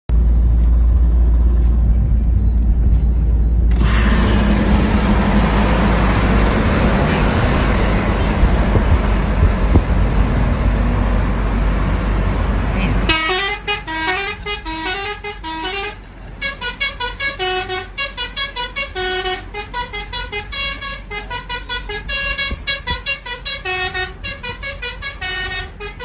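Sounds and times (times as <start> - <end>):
road traffic rumble: 0.1 - 26.0.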